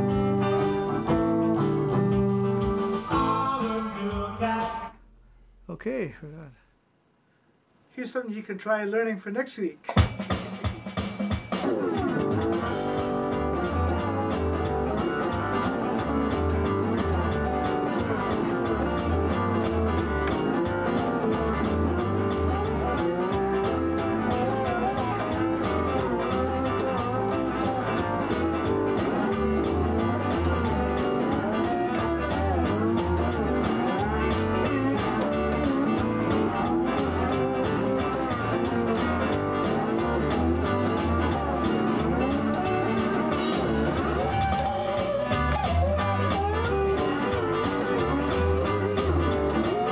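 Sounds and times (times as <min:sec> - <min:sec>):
electric guitar playing blues: 0:00.0 - 0:04.7, 0:11.6 - 0:49.9.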